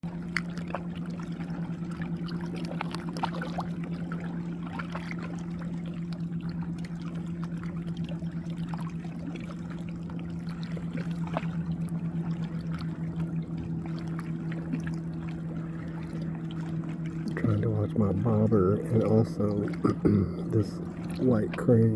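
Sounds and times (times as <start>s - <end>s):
river water trickling and lapping: 0.0s - 21.9s
steady low hum: 0.1s - 21.9s.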